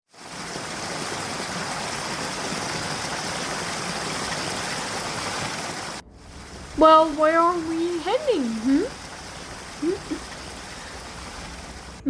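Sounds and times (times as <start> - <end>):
heavy rain downpour: 0.1 - 12.0.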